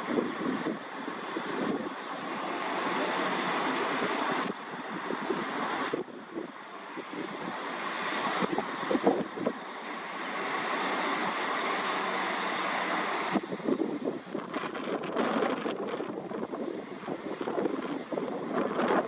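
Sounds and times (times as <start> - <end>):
wind buffeting microphone: 0.0 - 9.6, 13.2 - 19.0
train engine drone: 0.0 - 19.0.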